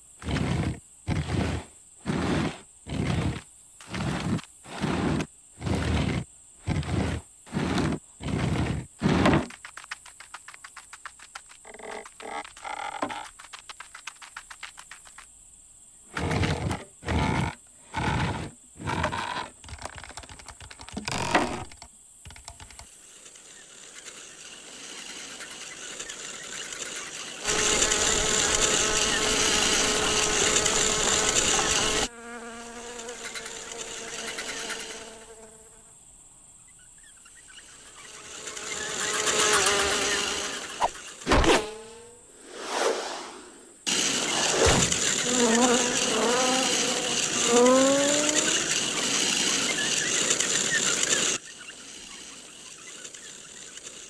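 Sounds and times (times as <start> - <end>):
fly buzzing: 0.0 - 15.3, 21.0 - 36.0, 36.8 - 54.0.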